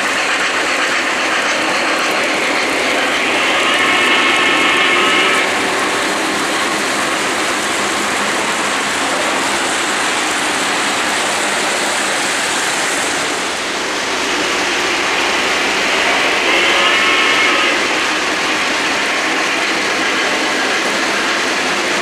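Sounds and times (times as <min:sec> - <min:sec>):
held multi-pitch tone: 0:00.0 - 0:20.4
model trains running: 0:00.0 - 0:22.0.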